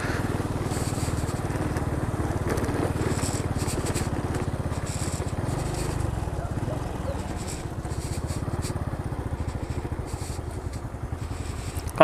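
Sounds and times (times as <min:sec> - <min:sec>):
motorcycle engine putter: 0:00.0 - 0:12.0
scratchy rustles: 0:00.6 - 0:01.9, 0:02.5 - 0:11.9.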